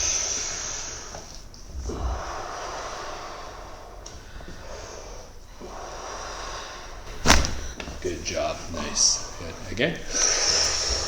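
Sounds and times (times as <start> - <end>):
slow deep breathing: 0.0 - 11.0.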